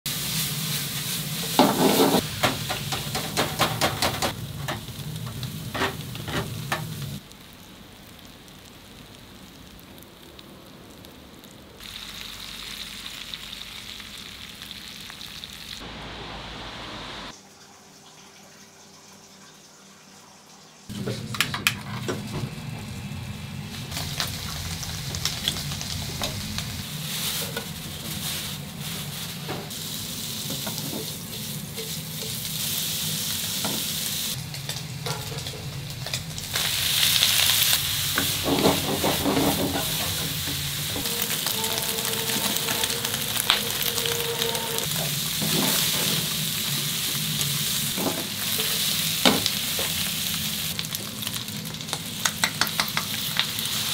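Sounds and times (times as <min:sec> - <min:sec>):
food sizzling: 0:00.1 - 0:17.4, 0:22.2 - 0:53.9.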